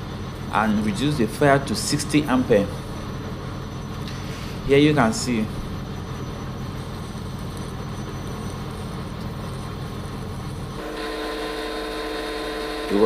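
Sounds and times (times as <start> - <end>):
droning hum with fixed tones: 0.0 - 13.0.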